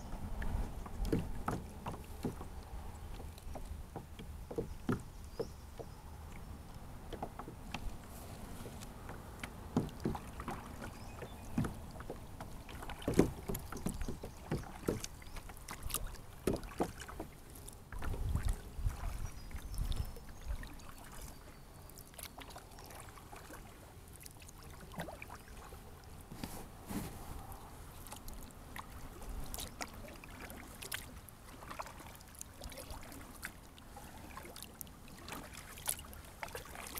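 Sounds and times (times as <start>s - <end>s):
kayak paddle splashing water: 0.2s - 26.6s, 27.9s - 36.9s.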